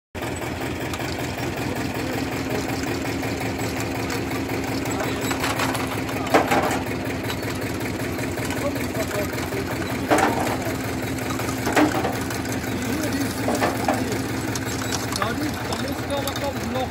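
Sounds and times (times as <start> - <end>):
machinery engine humming: 0.2 - 16.9.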